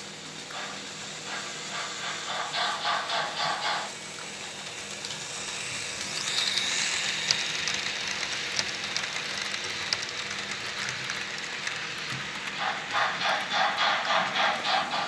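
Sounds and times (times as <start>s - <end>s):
model steam locomotive chuffing: 0.0s - 15.0s
motor and wheels whirring: 0.0s - 15.0s.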